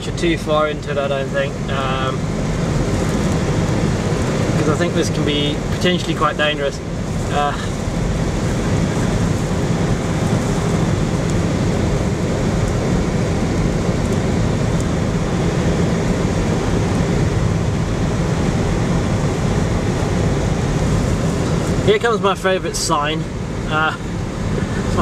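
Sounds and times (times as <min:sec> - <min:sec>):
car interior driving rumble: 0:00.0 - 0:25.0.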